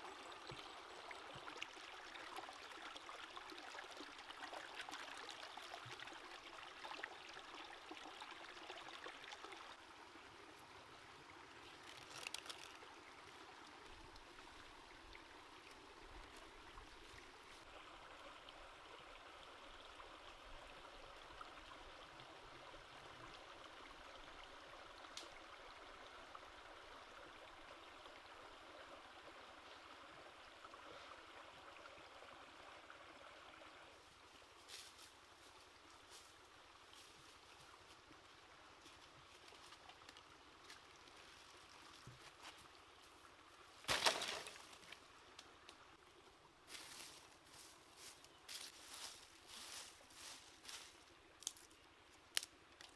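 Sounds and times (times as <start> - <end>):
stream running over rocks: 0.0 - 52.9.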